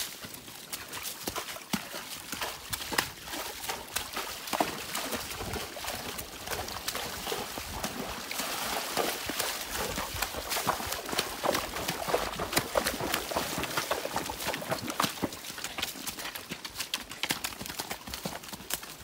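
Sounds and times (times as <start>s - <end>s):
horse hooves clopping: 0.0s - 19.0s.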